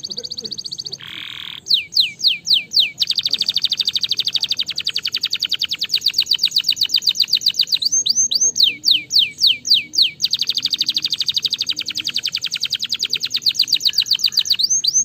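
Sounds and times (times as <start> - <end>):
canary trilling: 0.0 - 15.0.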